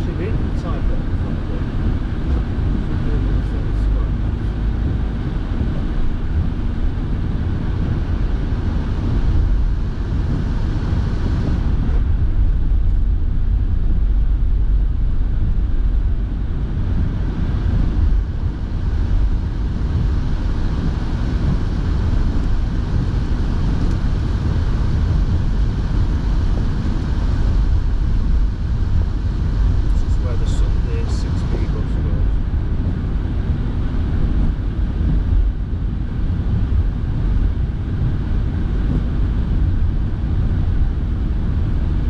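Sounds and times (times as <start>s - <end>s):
car road and engine noise: 0.0s - 42.0s
heater fan blowing: 0.0s - 42.0s.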